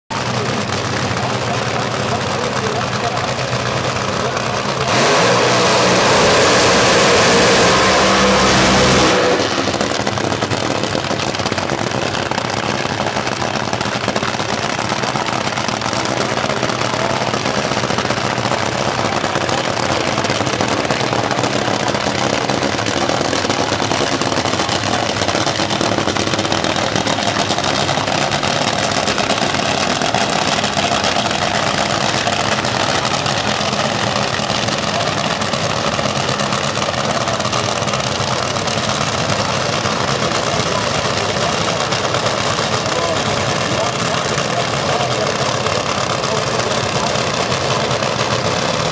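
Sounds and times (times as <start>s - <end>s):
drag car engine idling loudly: 0.1s - 48.9s.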